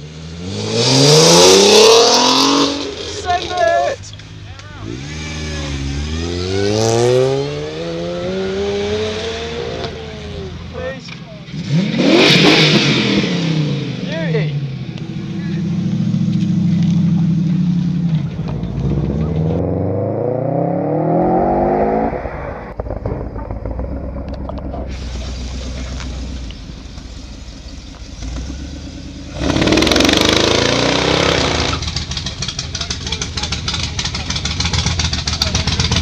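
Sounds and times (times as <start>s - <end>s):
car revving and accelerating: 0.0s - 3.7s, 4.8s - 10.6s, 11.4s - 26.6s, 27.8s - 32.6s
car engines rumbling: 0.0s - 36.0s
rasping engine revving: 0.4s - 3.8s, 4.7s - 10.5s, 11.4s - 26.7s, 28.2s - 36.0s.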